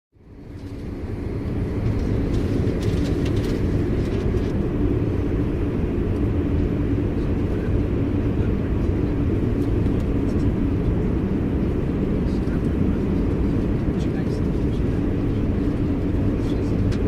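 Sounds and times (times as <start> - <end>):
train rumbling from inside carriage: 0.2 - 17.0.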